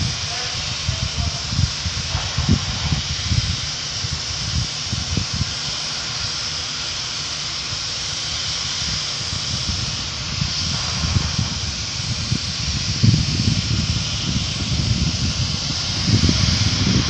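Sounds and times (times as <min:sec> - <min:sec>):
wind buffeting microphone: 0:00.0 - 0:06.5, 0:07.7 - 0:17.0
steady high hiss: 0:00.0 - 0:17.0.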